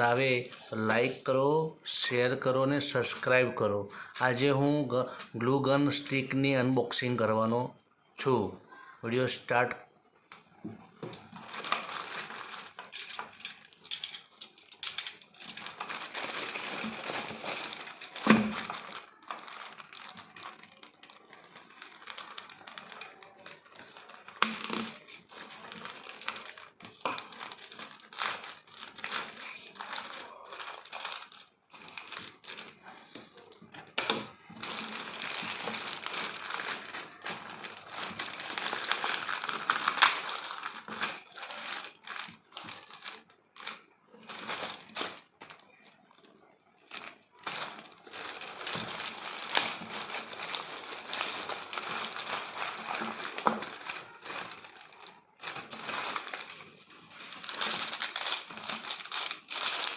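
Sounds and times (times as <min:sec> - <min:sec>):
packaging crinkling and rustling: 0:10.3 - 0:59.9.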